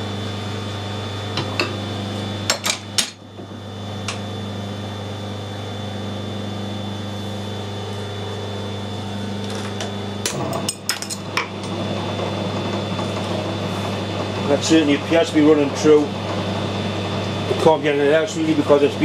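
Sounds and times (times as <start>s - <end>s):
metal lathe humming: 0.0s - 19.0s.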